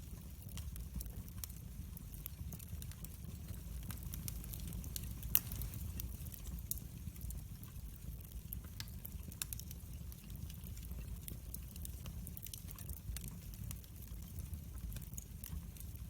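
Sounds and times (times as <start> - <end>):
fire popping and snapping: 0.0 - 16.0
low rumble of burning: 0.0 - 16.0.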